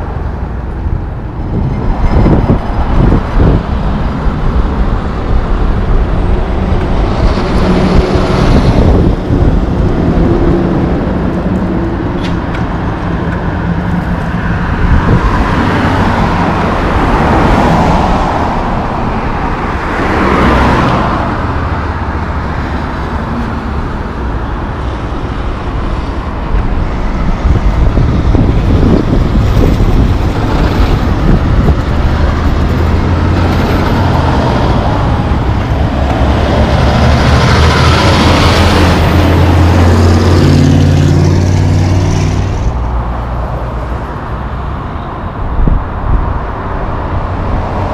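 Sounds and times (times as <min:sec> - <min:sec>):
cars whooshing past: 0:00.0 - 0:47.9
diesel truck engine passing: 0:00.0 - 0:47.9.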